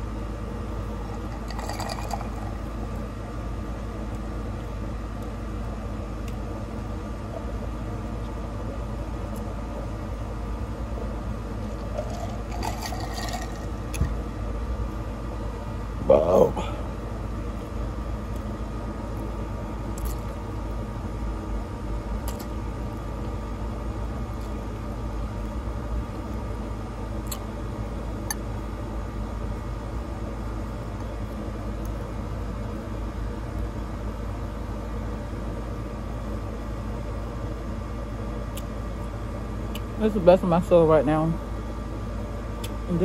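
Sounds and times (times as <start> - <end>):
steady mechanical hum: 0.0 - 43.0.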